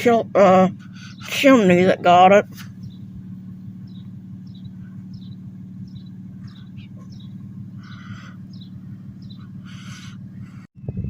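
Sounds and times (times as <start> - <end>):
vehicle engine idling hum: 0.0 - 11.0
harsh long bird calls: 0.4 - 1.8, 2.7 - 10.7.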